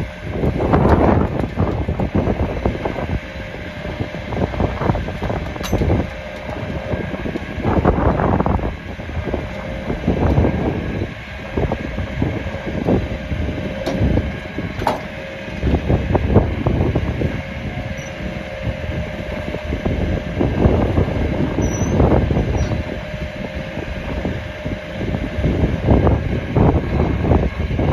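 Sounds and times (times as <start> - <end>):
truck engine running with whine: 0.0 - 27.9
wind on microphone: 0.0 - 27.9.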